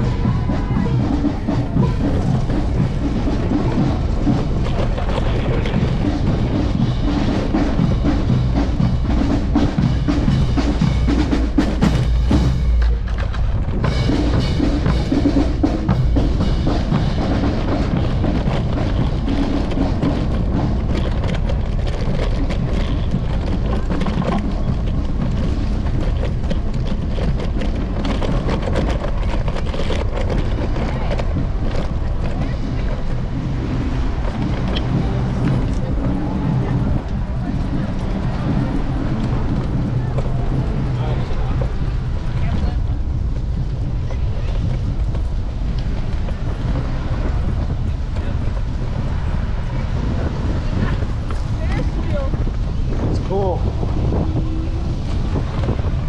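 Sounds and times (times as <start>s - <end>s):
knocks and rattles: 0.0s - 56.0s
low rumble: 0.0s - 56.0s
music with drum beat: 0.0s - 56.0s
wind rush: 0.0s - 56.0s.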